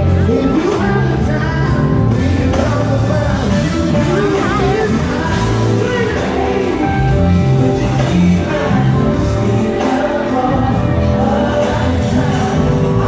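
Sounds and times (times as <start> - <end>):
live band playing: 0.0 - 13.0
man singing: 0.0 - 13.0.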